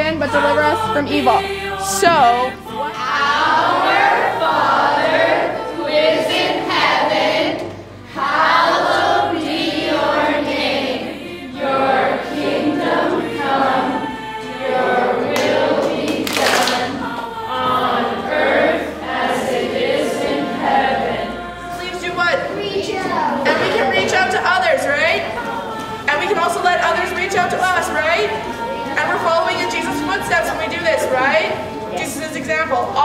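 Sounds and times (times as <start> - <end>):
children singing together: 0.0 - 33.0.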